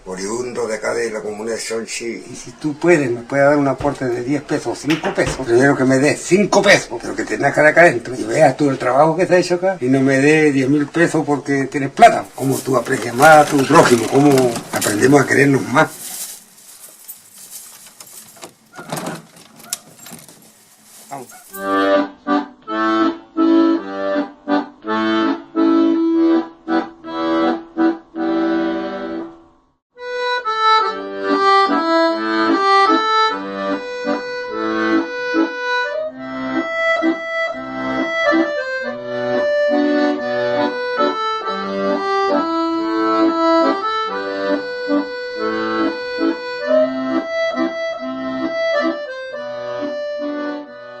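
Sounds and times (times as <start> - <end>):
accordion playing: 1.6 - 16.1, 20.5 - 29.4, 30.0 - 51.0.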